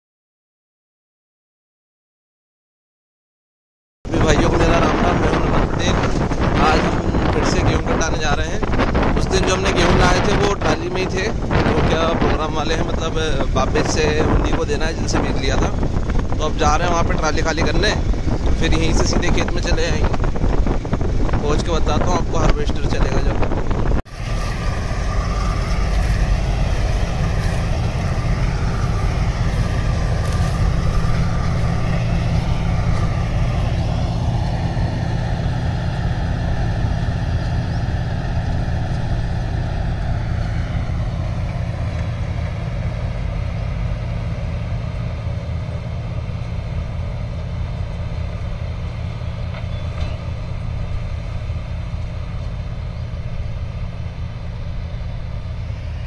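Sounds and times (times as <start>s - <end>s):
combine harvester engine drone: 4.1s - 56.0s
machine whine: 4.1s - 56.0s.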